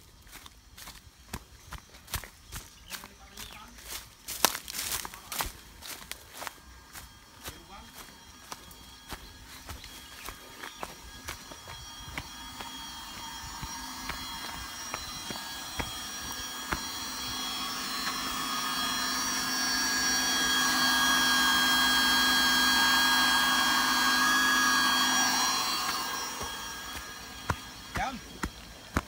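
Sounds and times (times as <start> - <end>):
water pump electric whine: 0.0 - 29.0.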